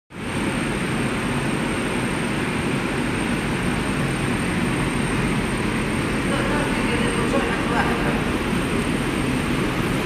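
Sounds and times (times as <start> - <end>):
printing press mechanical drone: 0.1 - 10.0
thin high whine: 0.1 - 10.0.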